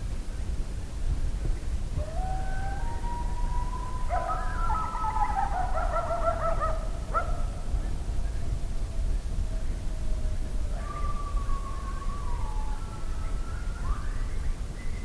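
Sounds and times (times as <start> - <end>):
coyotes howling and yipping: 2.0 - 15.0.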